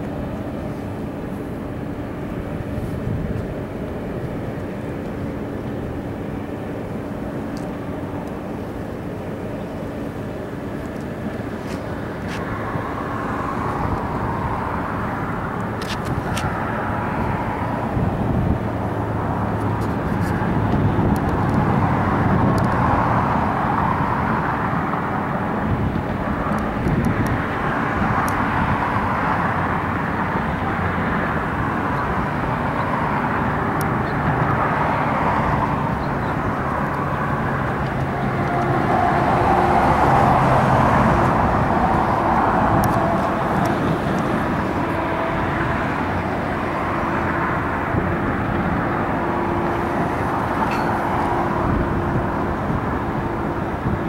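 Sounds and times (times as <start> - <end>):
diesel locomotive drone: 0.0 - 54.0
road traffic roar: 0.0 - 54.0.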